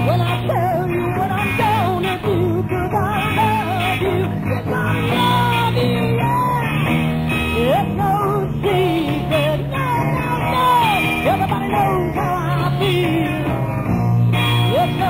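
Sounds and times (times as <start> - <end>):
rock band playing: 0.0 - 15.0
wavering lead guitar line: 0.0 - 15.0.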